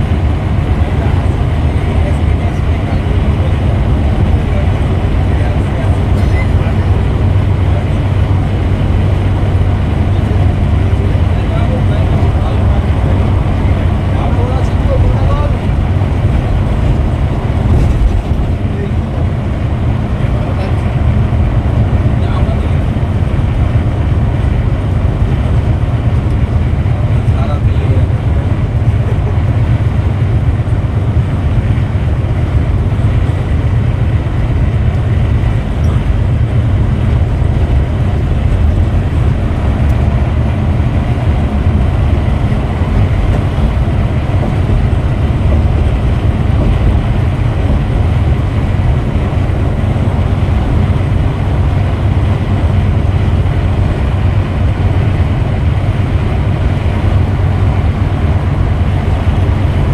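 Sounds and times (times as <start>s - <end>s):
coach engine and road rumble: 0.0s - 59.9s.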